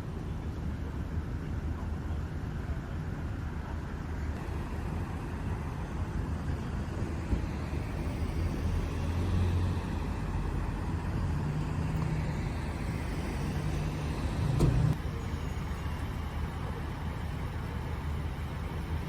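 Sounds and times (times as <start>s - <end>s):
traffic noise: 0.0s - 19.0s
vehicle engine rumbling: 0.0s - 19.0s.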